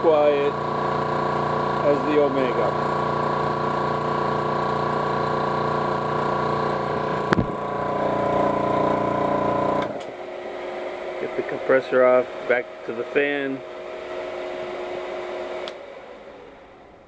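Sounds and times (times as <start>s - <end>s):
air compressor pulsing: 0.0s - 17.0s
cooling fan running: 0.0s - 17.0s.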